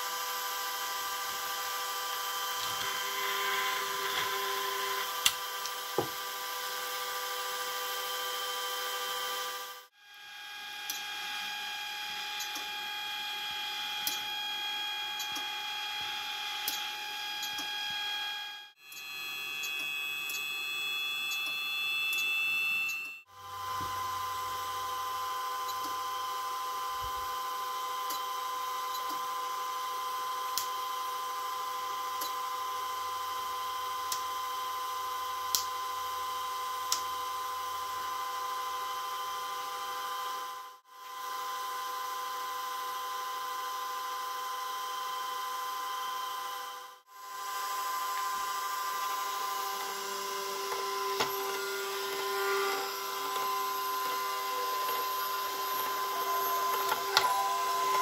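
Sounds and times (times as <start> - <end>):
gyro high electric whine: 0.0 - 58.0.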